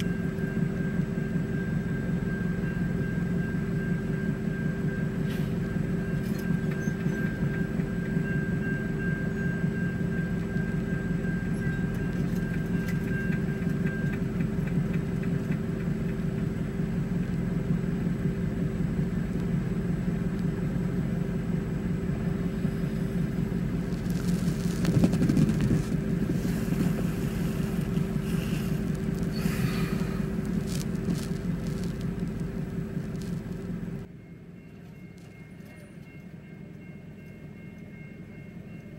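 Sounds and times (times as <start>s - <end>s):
car heater hum: 0.0s - 38.9s
diesel locomotive rumble: 0.0s - 38.9s.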